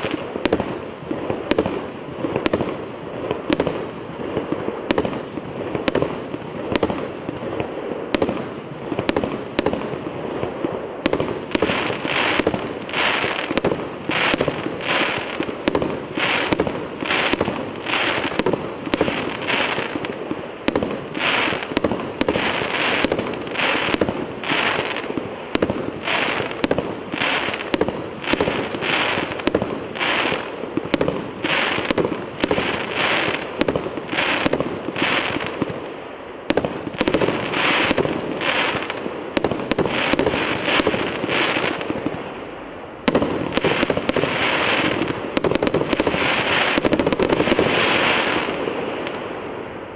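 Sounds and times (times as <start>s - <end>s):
firework cake firing: 0.0s - 42.3s, 43.1s - 49.2s
firework crackle: 0.0s - 49.9s.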